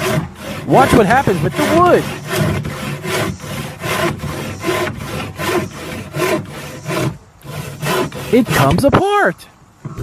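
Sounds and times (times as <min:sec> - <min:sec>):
hand saw cutting wood: 0:00.0 - 0:09.3.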